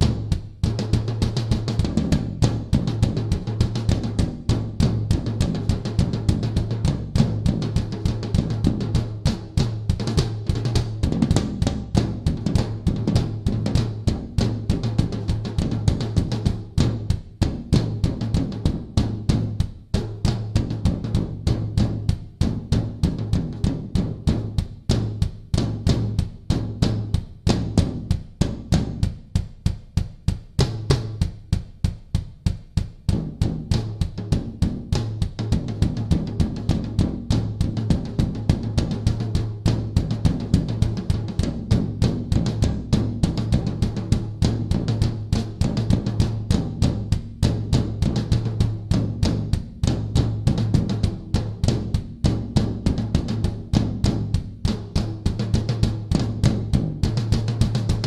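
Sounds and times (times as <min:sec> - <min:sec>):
drum kit played fast: 0:00.0 - 0:58.0.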